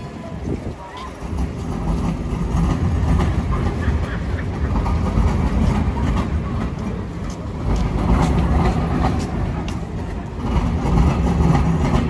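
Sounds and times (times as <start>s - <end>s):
tram wheels clicking: 0.0s - 12.0s.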